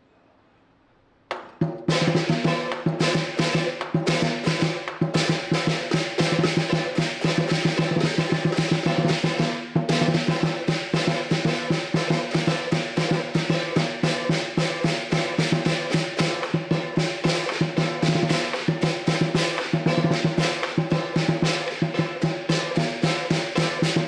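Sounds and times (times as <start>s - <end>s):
large drum beating fast rhythm: 1.6s - 24.0s
cymbals clashing: 1.9s - 24.0s.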